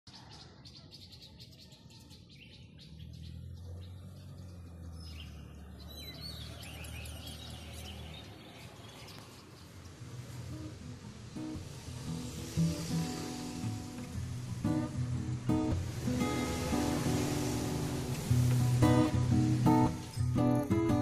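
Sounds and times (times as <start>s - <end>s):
birds chirping: 0.1s - 21.0s.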